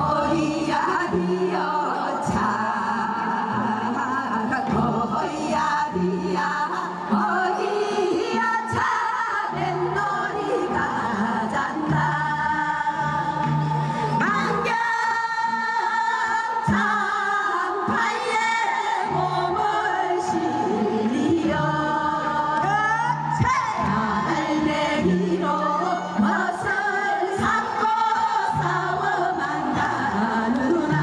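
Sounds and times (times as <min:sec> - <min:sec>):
women singing folk song: 0:00.0 - 0:31.0.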